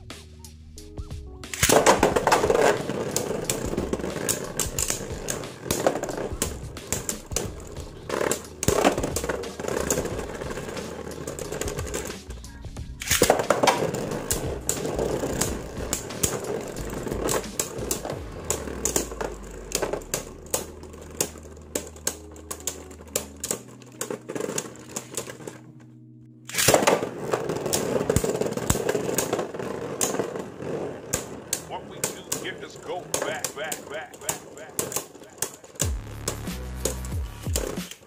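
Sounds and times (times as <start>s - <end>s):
spinning tops clacking: 1.5s - 12.4s, 13.0s - 25.6s, 26.5s - 38.0s.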